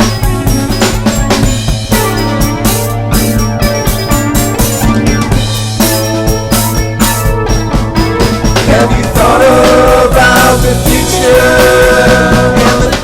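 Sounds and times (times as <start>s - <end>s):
synthesizer lead gliding notes: 0.0s - 12.1s
drum beat: 0.0s - 13.0s
held synth bass: 0.0s - 13.0s.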